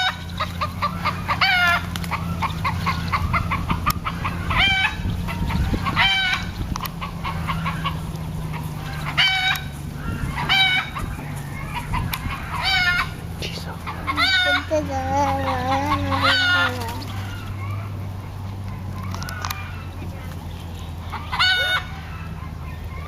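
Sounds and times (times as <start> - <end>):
chickens clucking: 0.0 - 23.0
steady low hum: 0.0 - 23.0.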